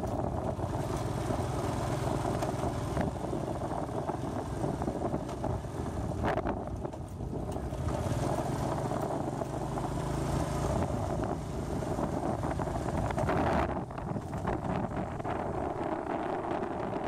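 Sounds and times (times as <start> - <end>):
vehicle engine running: 0.0 - 17.0
wind buffeting the microphone: 0.0 - 17.0.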